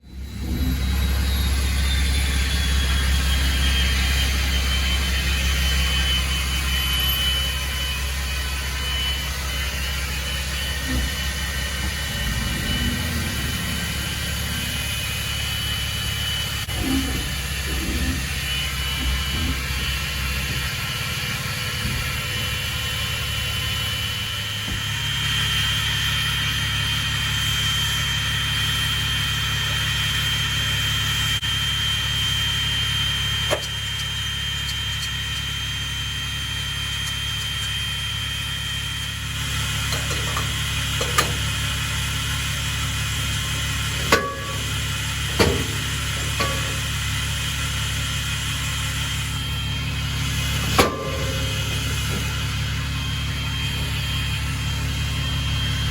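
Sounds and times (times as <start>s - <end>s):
high whine: 0.0s - 28.1s, 31.6s - 55.9s
vehicle engine running: 0.0s - 55.9s.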